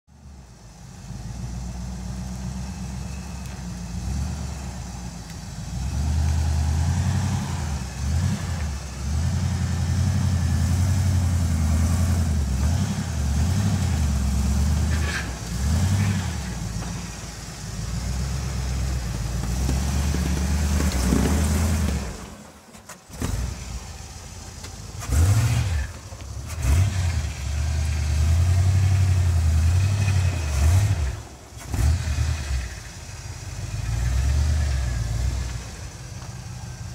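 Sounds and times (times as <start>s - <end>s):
engine revving under load: 1.1s - 24.2s, 24.9s - 36.9s.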